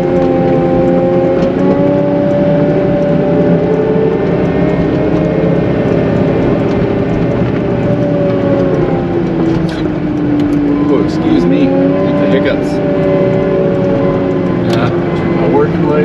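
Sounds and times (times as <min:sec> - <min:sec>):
wheel loader diesel engine running: 0:00.0 - 0:16.0.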